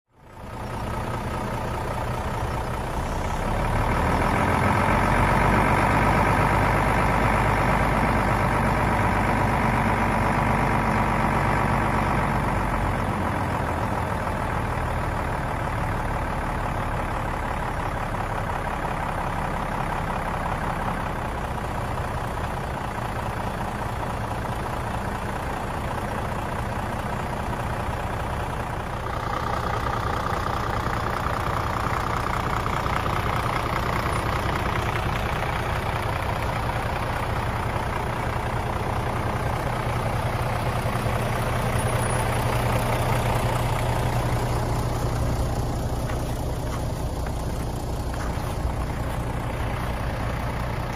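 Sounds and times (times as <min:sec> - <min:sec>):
diesel truck engine idling: 0:00.1 - 0:50.9.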